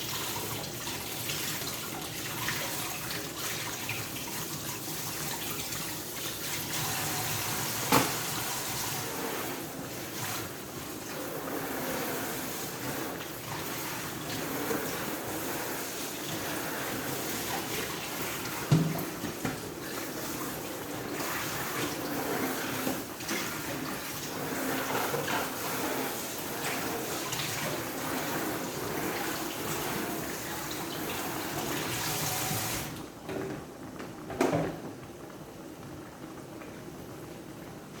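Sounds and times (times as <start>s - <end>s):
tap water running into sink: 0.0s - 33.0s.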